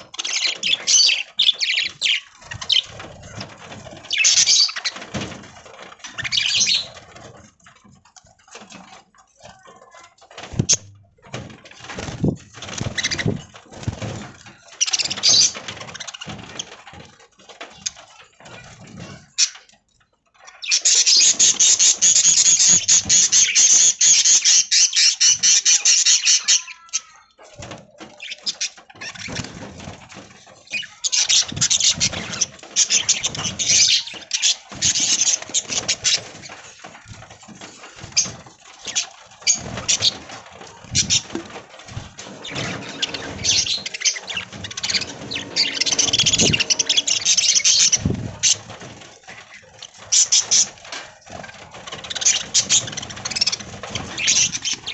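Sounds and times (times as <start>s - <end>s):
budgies chattering and chirping: 0.0s - 54.9s.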